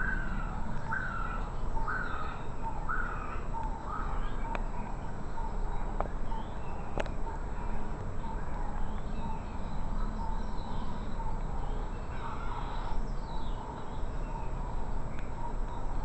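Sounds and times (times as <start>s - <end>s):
bird calls and chirps: 0.0s - 16.0s
steady low rumble: 0.0s - 16.0s.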